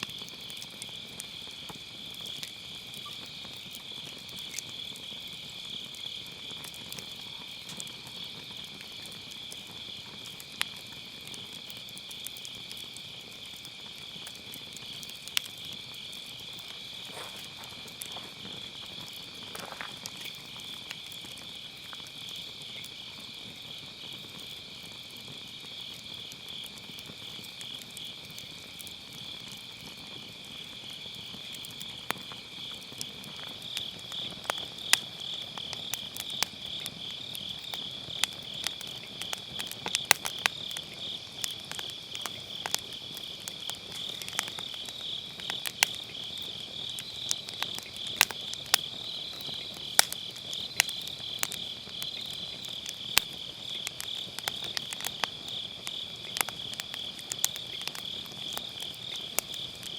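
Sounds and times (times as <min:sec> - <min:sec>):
crickets chirping: 0:00.0 - 0:59.9
firewood crackling and popping: 0:00.0 - 0:59.9.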